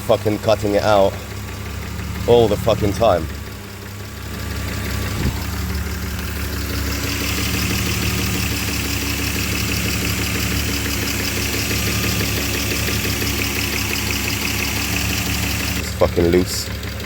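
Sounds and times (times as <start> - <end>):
car engine idling rough: 0.0 - 17.0.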